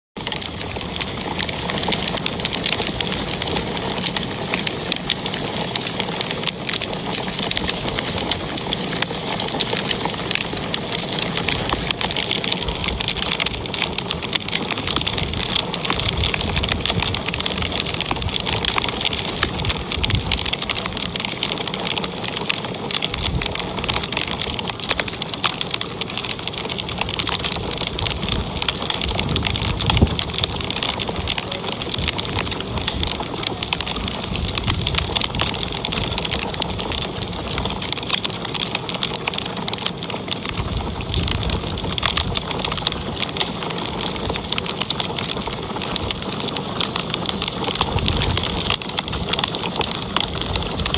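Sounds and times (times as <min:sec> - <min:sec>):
wood fire crackling: 0:00.2 - 0:50.9.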